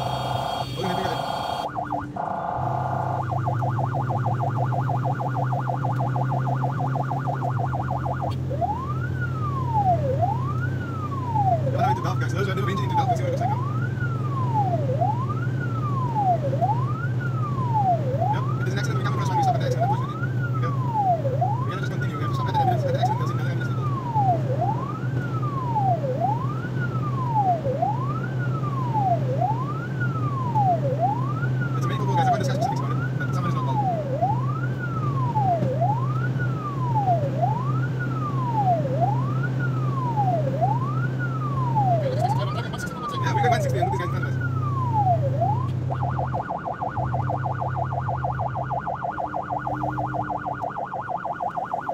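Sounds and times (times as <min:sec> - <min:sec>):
emergency siren wailing: 0:00.0 - 0:51.9
engine and road drone: 0:00.0 - 0:51.9.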